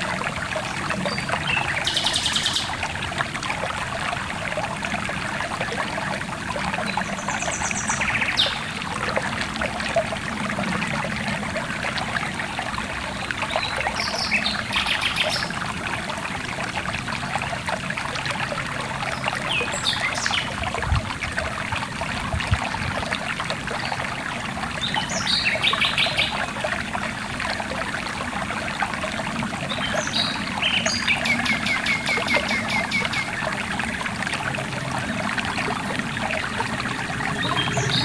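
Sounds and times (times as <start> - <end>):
stream water trickling: 0.0 - 38.0.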